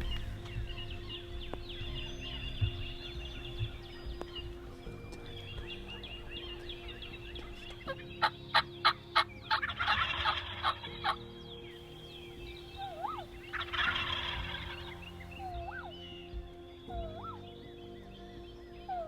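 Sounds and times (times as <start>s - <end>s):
turkeys gobbling: 0.0s - 16.2s, 16.9s - 17.5s
small birds chirping: 0.0s - 19.0s.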